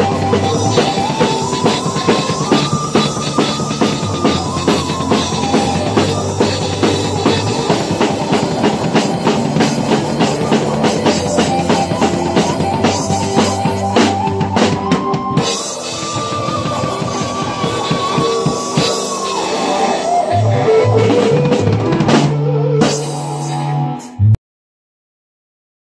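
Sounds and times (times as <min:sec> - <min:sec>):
recorded rock song: 0:00.0 - 0:24.3
acoustic drum kit playing: 0:00.0 - 0:24.4.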